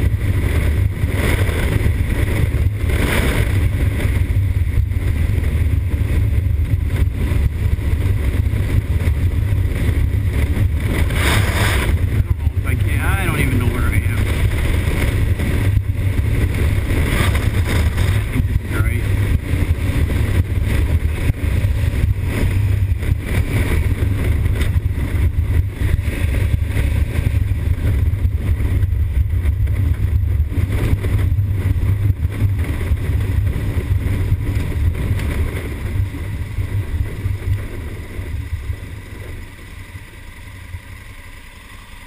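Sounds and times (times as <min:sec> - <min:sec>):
wind rush: 0:00.0 - 0:39.4
motorcycle engine cruising: 0:00.0 - 0:42.0.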